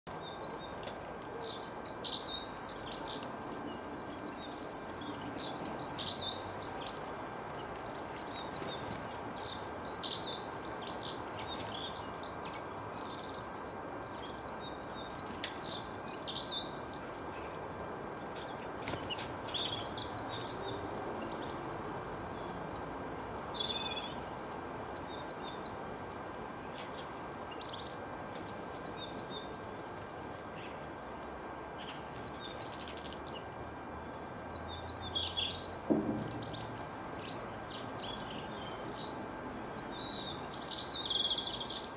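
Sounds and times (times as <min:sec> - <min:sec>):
songbirds twittering: 0:00.0 - 0:41.9.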